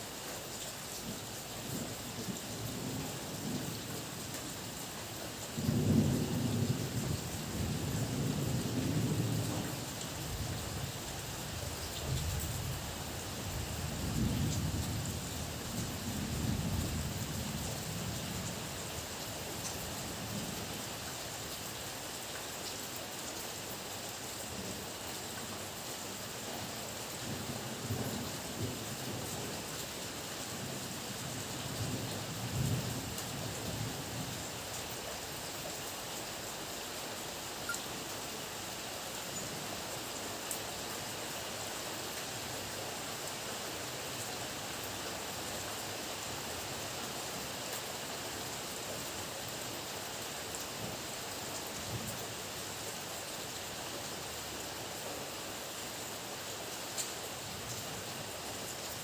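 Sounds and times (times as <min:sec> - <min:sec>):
heavy rain falling: 0:00.1 - 0:59.0.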